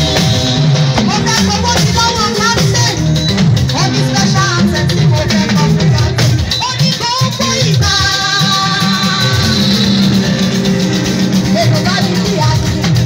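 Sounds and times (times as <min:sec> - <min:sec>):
keyboard chords: 0:00.0 - 0:06.9, 0:07.6 - 0:13.0
bass line: 0:00.0 - 0:13.0
drums: 0:00.0 - 0:13.0.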